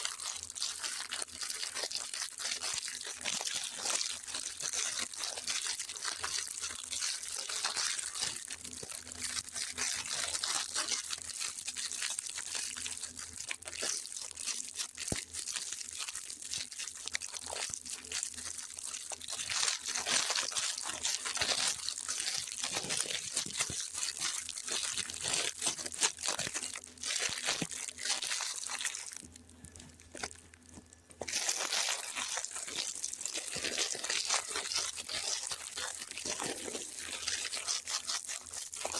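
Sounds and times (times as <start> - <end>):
packaging crinkling and crunching: 0.0 - 38.9
packaging tearing: 0.0 - 38.9.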